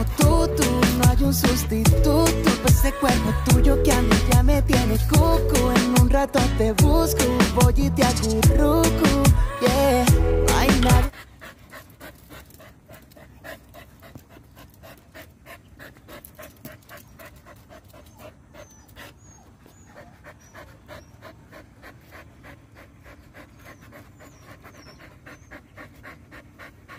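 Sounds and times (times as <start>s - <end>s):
dog panting: 0.0s - 26.9s.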